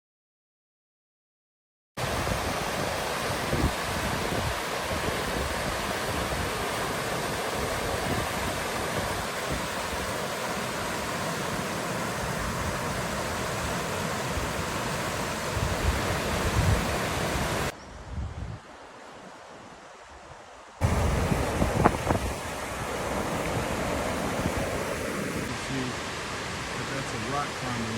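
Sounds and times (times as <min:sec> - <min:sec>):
creek water rushing: 0:02.0 - 0:17.8, 0:18.6 - 0:27.9.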